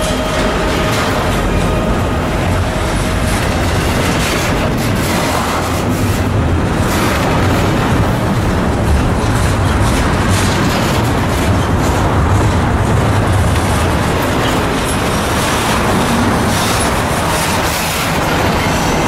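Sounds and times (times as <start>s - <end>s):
train passing rumbling: 0.0s - 19.0s.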